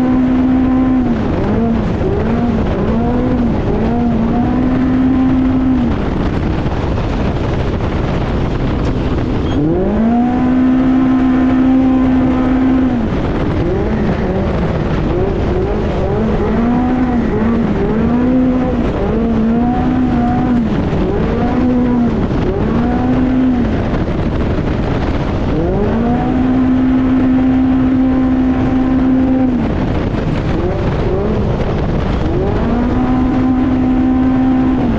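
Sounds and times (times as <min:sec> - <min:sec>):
loud rushing noise: 0:00.0 - 0:34.9
race vehicle engine revving: 0:00.0 - 0:34.9.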